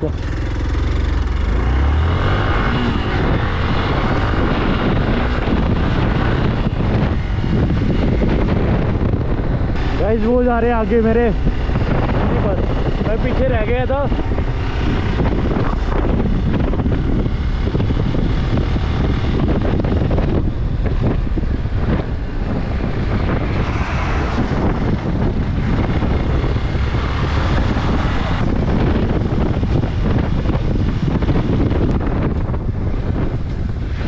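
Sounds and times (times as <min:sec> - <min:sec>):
motorcycle engine running: 0:00.0 - 0:34.0
wind rumble on microphone: 0:00.0 - 0:34.0.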